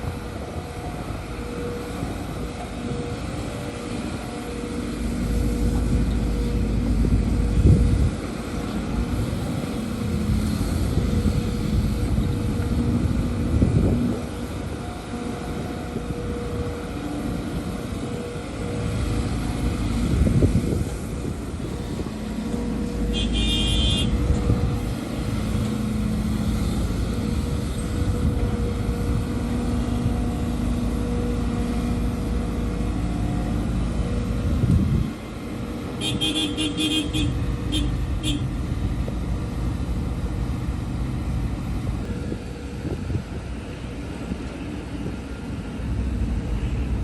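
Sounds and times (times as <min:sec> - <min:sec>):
heavy diesel machinery running: 0:00.0 - 0:47.0.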